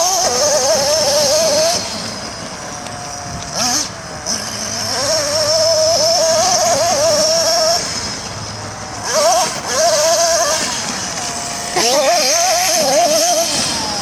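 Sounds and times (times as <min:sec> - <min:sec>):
small nitro engine revving: 0:00.0 - 0:14.0.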